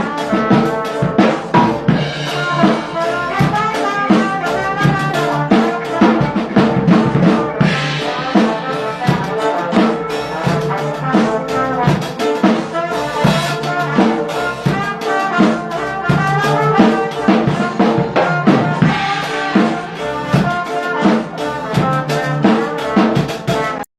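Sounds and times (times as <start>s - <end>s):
loud music with brass and drums: 0.0s - 23.9s.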